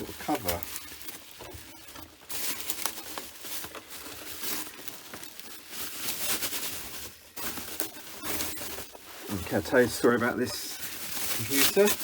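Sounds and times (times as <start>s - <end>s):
wrapping cover rustling: 0.0s - 12.0s.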